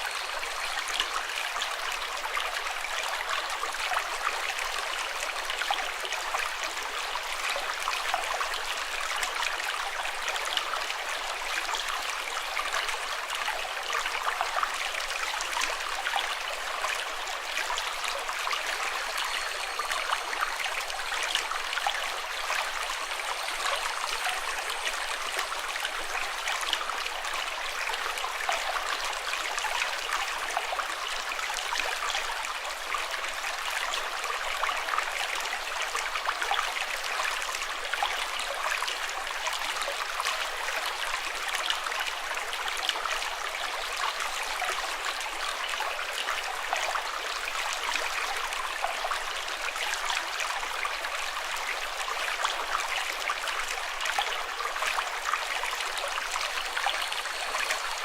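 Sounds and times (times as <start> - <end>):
running water babbling: 0.0 - 58.0.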